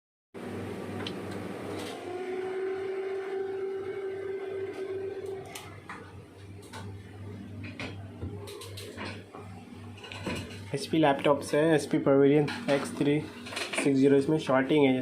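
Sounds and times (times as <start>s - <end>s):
low electrical hum: 0.4s - 15.0s.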